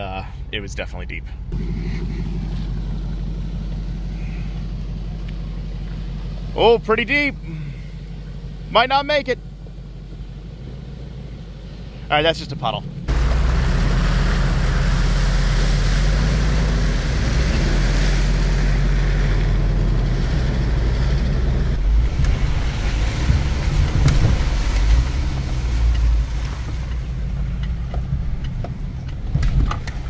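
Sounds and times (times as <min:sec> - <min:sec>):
engine low rumble: 0:00.0 - 0:30.0
road rumble inside car: 0:00.0 - 0:30.0
water sloshing around tyres: 0:01.5 - 0:21.1, 0:21.8 - 0:30.0.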